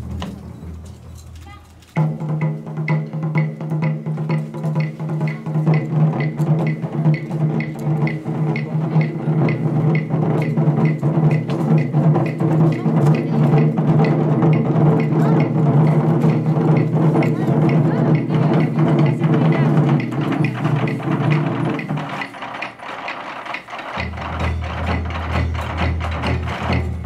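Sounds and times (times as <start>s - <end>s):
taiko drums beating: 0.0s - 0.9s, 2.0s - 27.0s.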